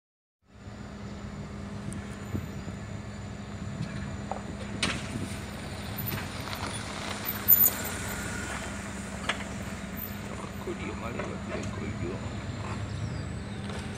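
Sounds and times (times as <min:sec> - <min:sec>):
vehicle engine humming: 0:00.4 - 0:13.9
van pulling up: 0:00.5 - 0:13.9.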